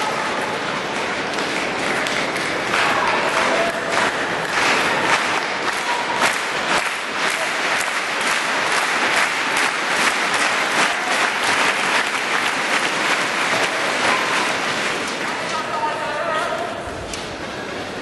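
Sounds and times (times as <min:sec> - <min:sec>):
crowd applauding: 0:00.0 - 0:16.2.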